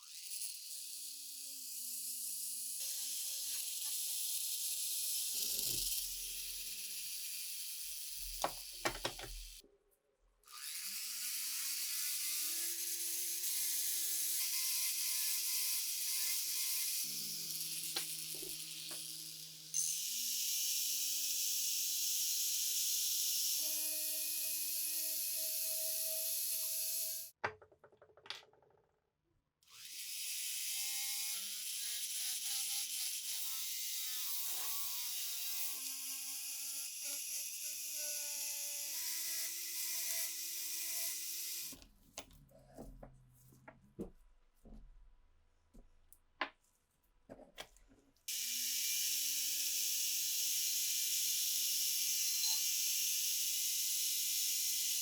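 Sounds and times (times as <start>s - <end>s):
small power tool whirring: 0.0s - 9.6s, 10.4s - 27.4s, 29.6s - 41.8s, 48.3s - 55.0s.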